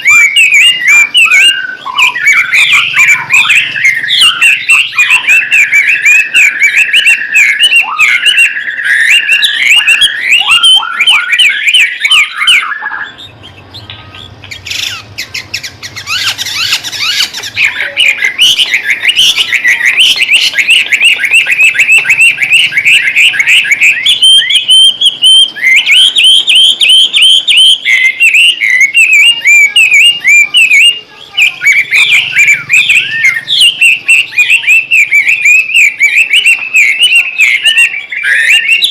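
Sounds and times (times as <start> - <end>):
bird singing fast whistled song: 0.0 - 38.9.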